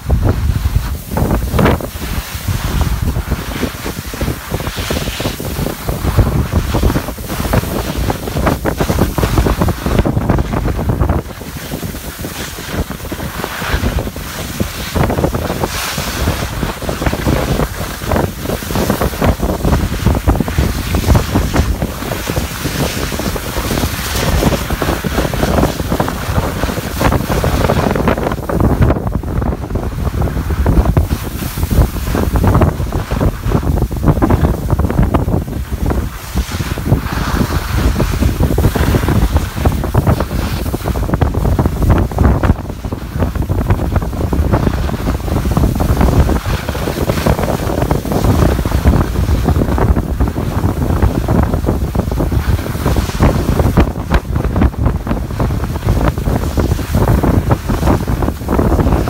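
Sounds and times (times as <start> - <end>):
skis scraping over snow: 0.0 - 59.0
wind buffeting microphone: 0.0 - 59.0.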